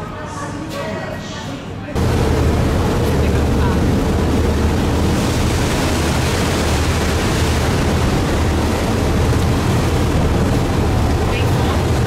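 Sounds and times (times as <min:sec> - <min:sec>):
boat engine rumble: 0:02.0 - 0:12.0
wind buffeting microphone: 0:02.0 - 0:12.0.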